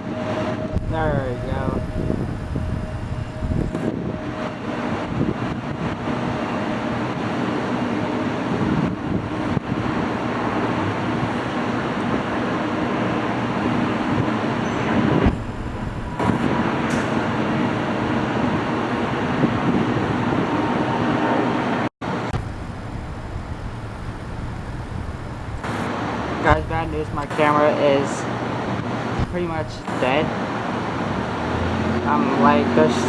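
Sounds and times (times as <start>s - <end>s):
jet engines at takeoff power: 0.0s - 33.0s.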